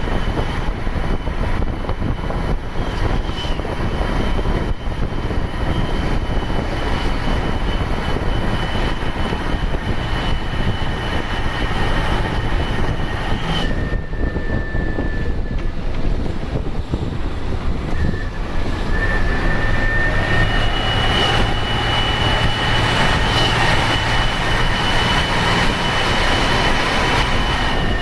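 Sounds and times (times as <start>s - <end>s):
turbocharger whistle: 0.0s - 15.8s, 17.9s - 28.0s
diesel bus engine under load: 0.0s - 28.0s.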